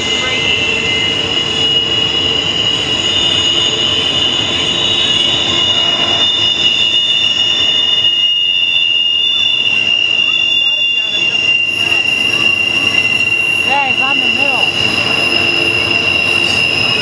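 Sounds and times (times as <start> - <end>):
high-pitched wheel squeal: 0.0 - 17.0
train wheels rumbling on rails: 0.0 - 17.0.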